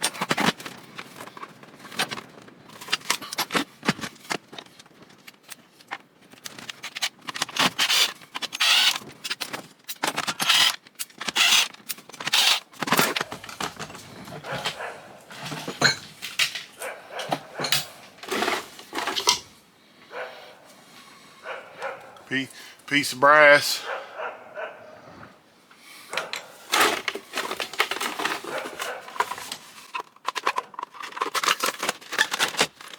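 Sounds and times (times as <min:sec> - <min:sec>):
tools clattering and scraping parts: 0:00.0 - 0:22.2, 0:26.0 - 0:32.9.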